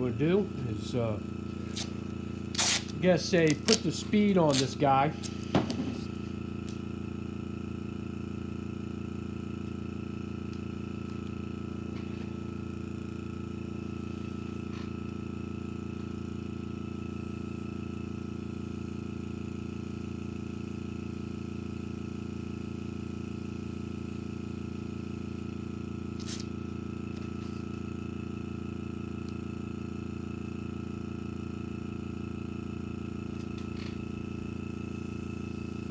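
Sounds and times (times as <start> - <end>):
compressor humming: 0.0 - 35.9.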